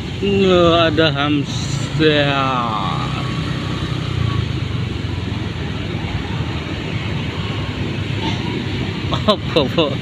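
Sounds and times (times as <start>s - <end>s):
motorcycle engines humming: 0.0s - 10.0s
road and wind noise: 0.0s - 10.0s.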